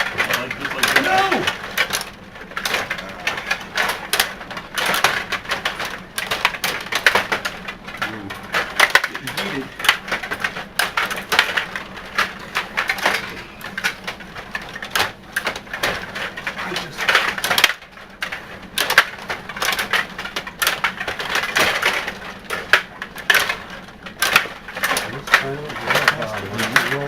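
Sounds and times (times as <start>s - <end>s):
table hockey clicks and clacks: 0.0s - 27.0s.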